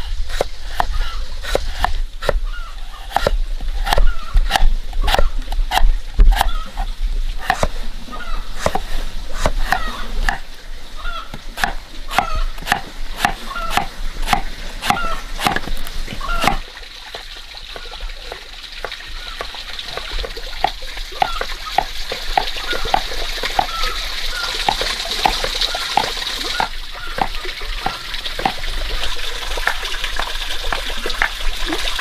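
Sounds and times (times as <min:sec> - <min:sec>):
fish plopping and slurping: 0:00.0 - 0:32.0.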